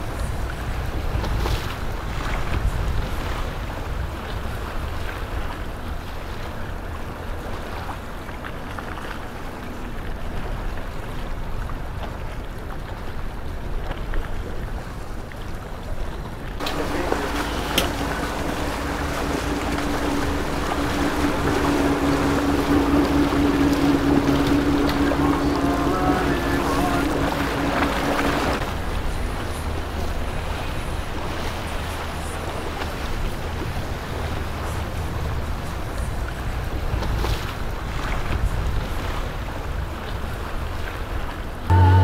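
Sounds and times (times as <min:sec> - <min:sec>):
boat engine rumbling: 0:00.0 - 0:42.0
speedboat engine running: 0:00.0 - 0:42.0
water rushing along hull: 0:00.0 - 0:42.0
wind on microphone: 0:00.0 - 0:42.0.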